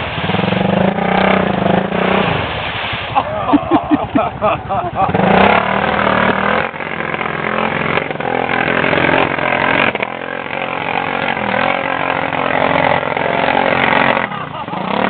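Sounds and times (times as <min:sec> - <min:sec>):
atv engine running hard: 0:00.0 - 0:02.5, 0:03.3 - 0:15.0.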